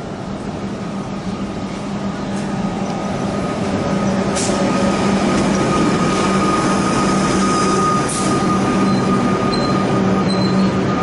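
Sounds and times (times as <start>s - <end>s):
electric train arriving: 0.0s - 11.0s.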